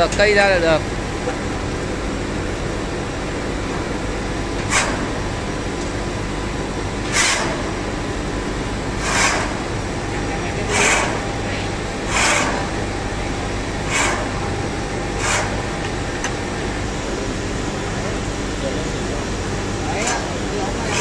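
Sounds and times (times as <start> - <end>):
tube-pulling machine droning: 0.0 - 21.0.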